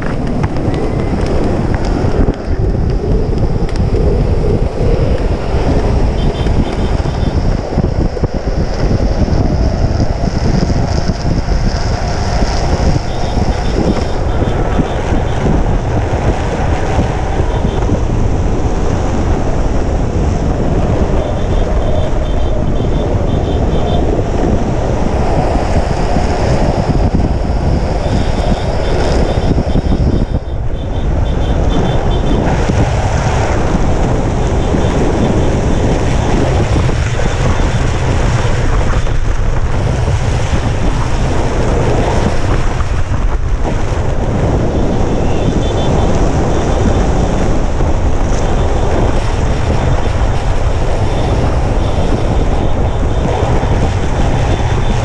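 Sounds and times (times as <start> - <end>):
longboard wheels rolling on concrete: 0.0 - 55.0
wind on microphone: 0.0 - 55.0.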